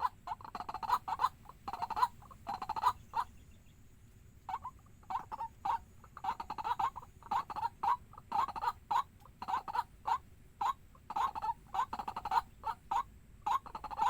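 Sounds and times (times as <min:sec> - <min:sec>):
waterhen calling: 0:00.0 - 0:03.7, 0:04.5 - 0:14.0.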